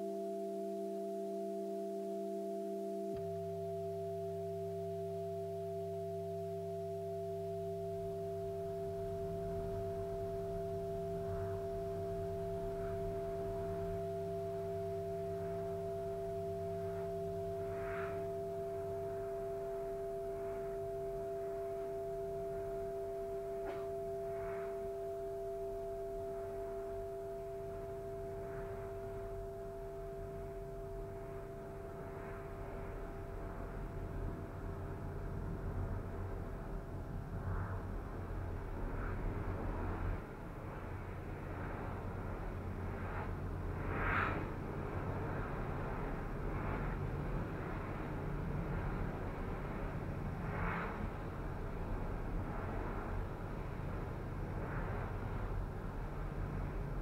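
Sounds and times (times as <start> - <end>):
electronic drone of held tones: 0.0 - 57.0
low humming tones: 0.0 - 57.0.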